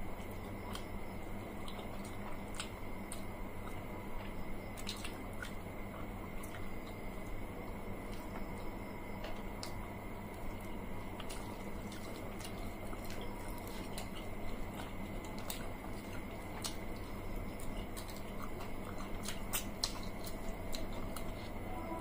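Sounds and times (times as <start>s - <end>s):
wet chewing and squishing: 0.0s - 21.7s
faint hum: 0.0s - 22.0s.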